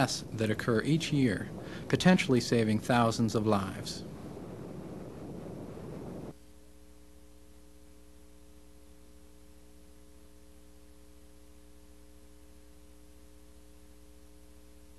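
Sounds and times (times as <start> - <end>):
electrical mains hum: 0.0 - 14.9
faint hiss: 0.0 - 14.9.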